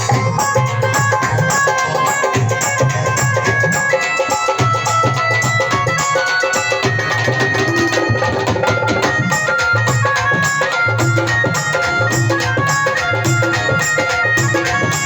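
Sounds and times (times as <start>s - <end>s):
dhol drumming: 0.0s - 15.0s
melody instrument playing held notes: 0.0s - 15.0s.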